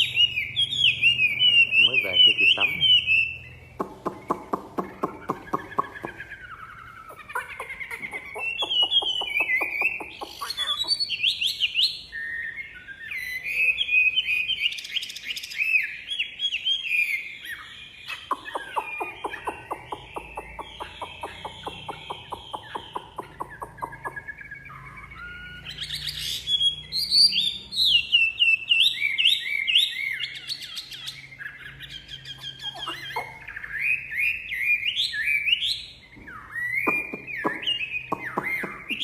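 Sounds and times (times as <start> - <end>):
songbird warbling: 0.0 - 39.0.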